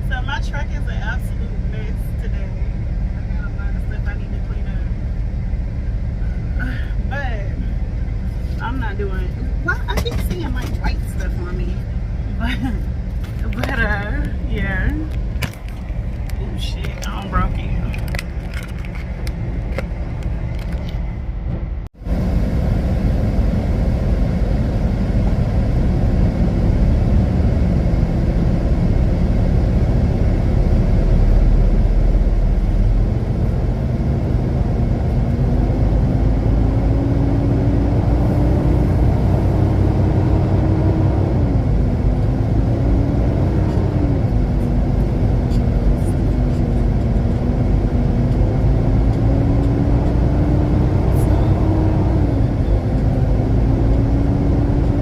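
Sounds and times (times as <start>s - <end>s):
truck engine from inside cab: 0.0s - 55.0s.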